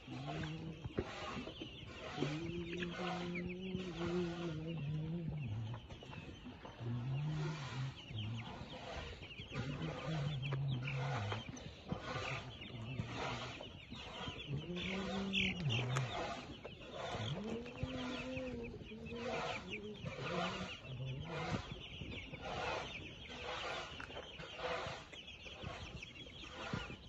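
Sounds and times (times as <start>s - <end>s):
chickens clucking: 0.0s - 27.0s
low-pitched chicken calls: 0.0s - 27.0s.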